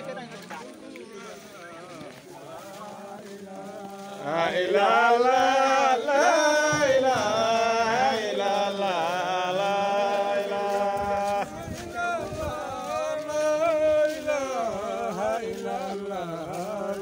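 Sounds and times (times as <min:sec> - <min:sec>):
men chanting in long notes: 0:01.2 - 0:17.0.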